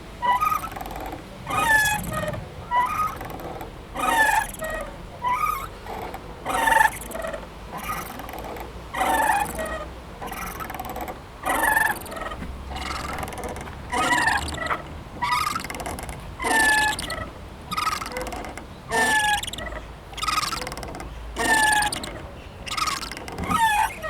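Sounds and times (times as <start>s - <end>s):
playground swing squeaking: 0.0s - 24.0s.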